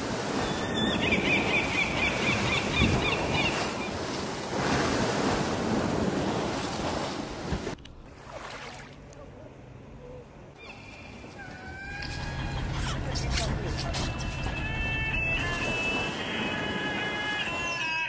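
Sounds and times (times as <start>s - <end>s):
sea waves washing: 0.0s - 9.1s, 10.6s - 18.0s.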